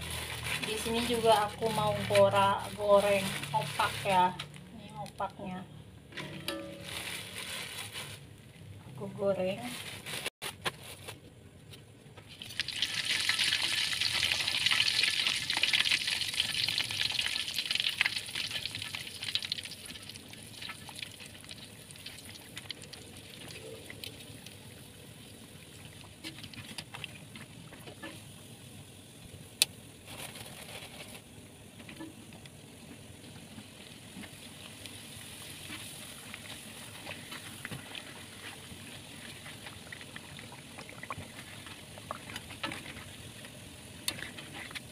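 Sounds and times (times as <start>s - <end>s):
crackers sizzling in hot oil: 0.0s - 4.6s, 12.3s - 44.9s.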